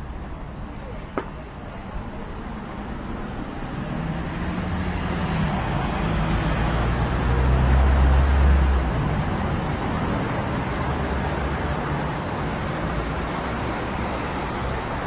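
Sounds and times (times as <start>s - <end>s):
steady traffic hum: 0.0s - 15.0s.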